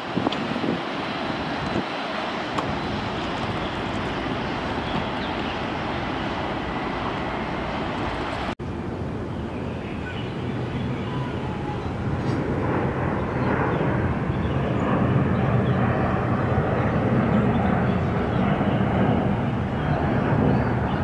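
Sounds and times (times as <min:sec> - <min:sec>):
jet engine noise: 0:00.0 - 0:21.0.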